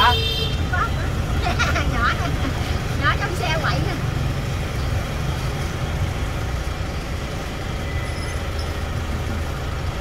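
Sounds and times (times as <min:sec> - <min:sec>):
vehicle and road rumble: 0:00.0 - 0:10.0.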